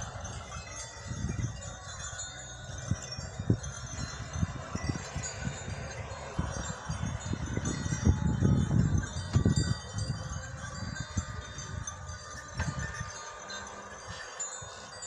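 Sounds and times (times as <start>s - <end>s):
animal bells tinkling: 0.0s - 15.0s
wind rumble on microphone: 0.0s - 15.0s.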